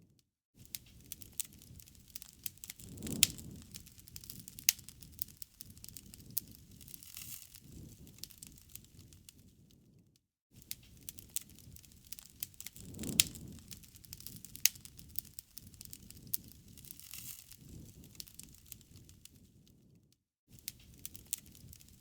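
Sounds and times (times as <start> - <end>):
wood fire crackling: 0.7 - 10.0, 10.6 - 22.0
low rush of flame: 0.9 - 9.9, 10.7 - 19.7, 20.6 - 22.0.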